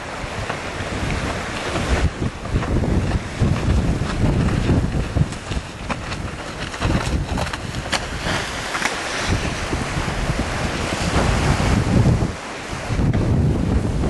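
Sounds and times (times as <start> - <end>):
water chop washing: 0.0 - 11.9
gusty wind buffeting microphone: 0.0 - 14.0.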